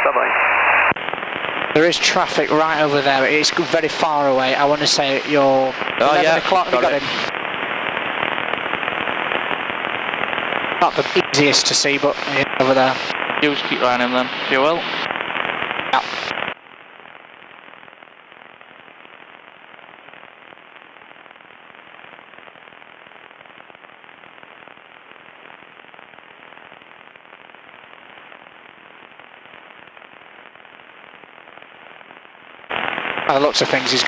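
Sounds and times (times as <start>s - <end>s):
crackling radio static hiss: 0.0s - 34.0s.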